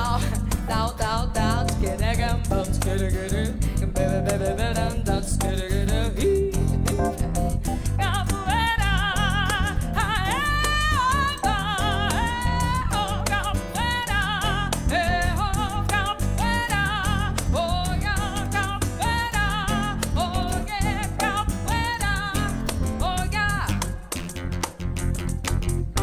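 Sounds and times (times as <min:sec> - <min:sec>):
woman singing with vibrato: 0:00.0 - 0:24.1
acoustic guitar: 0:00.0 - 0:26.0
percussion: 0:00.0 - 0:26.0.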